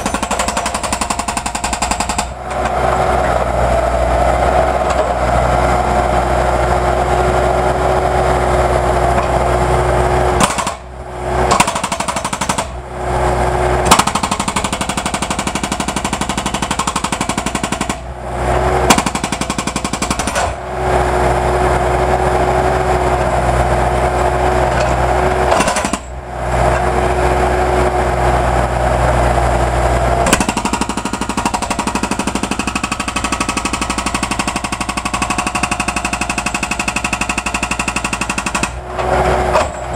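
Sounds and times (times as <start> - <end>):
jackhammer pounding concrete: 0.0 - 5.3, 9.1 - 27.3, 30.2 - 39.9
engine running steadily: 0.0 - 39.9.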